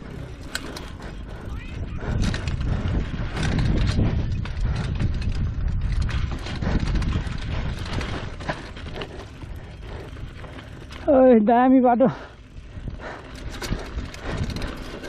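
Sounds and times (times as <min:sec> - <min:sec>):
wind buffeting microphone: 0:00.0 - 0:11.0, 0:12.2 - 0:15.0.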